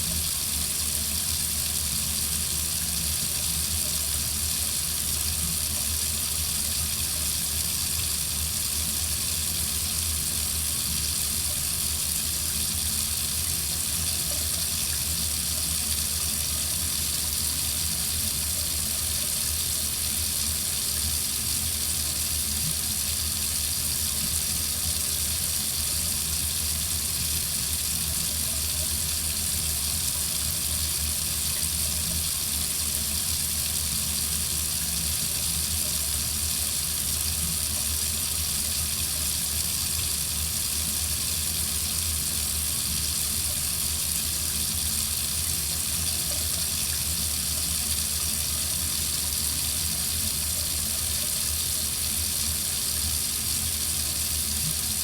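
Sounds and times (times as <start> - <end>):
faucet running into sink: 0.0 - 55.0.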